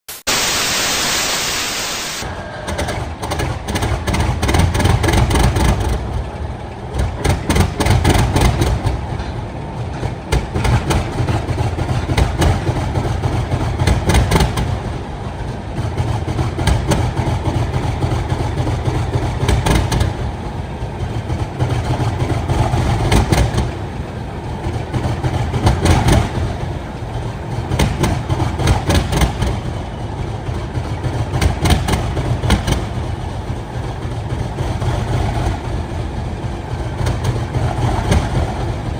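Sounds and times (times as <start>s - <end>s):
diesel engine rumbling and knocking: 2.2s - 38.9s.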